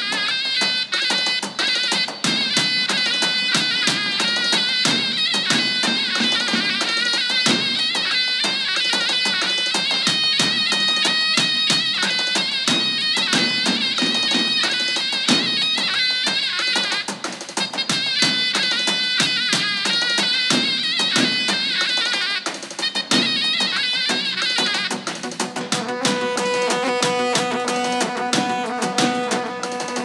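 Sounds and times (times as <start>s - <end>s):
folk dance music: 0.0s - 30.0s
steady drum beat: 0.0s - 30.0s.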